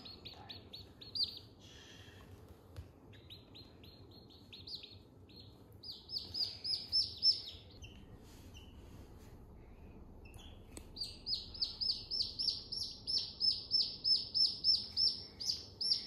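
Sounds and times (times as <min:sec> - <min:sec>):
baby chicks peeping: 0:00.0 - 0:02.2, 0:03.0 - 0:09.0, 0:10.2 - 0:16.0.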